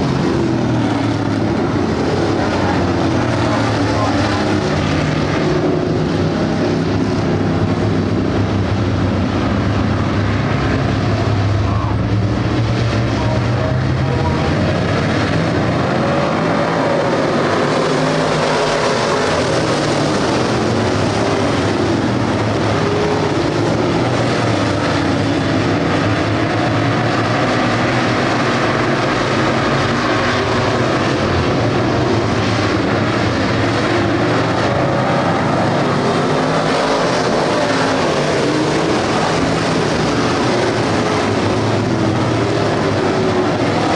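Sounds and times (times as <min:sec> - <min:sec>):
race car engines droning: 0:00.0 - 0:43.9.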